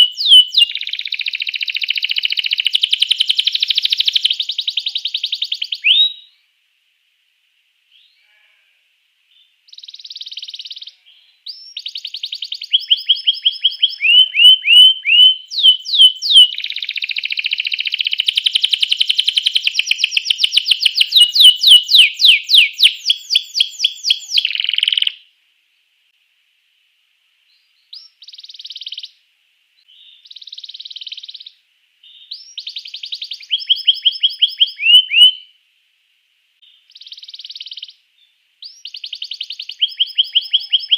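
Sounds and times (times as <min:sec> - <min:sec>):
canary singing trills: 0:00.0 - 0:06.4, 0:09.3 - 0:25.3, 0:27.5 - 0:29.2, 0:29.8 - 0:35.6, 0:36.6 - 0:40.9.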